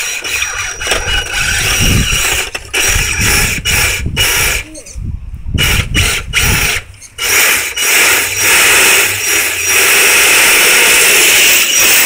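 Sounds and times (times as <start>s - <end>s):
electric motor and gears whirring: 0.0s - 5.0s, 5.6s - 12.0s.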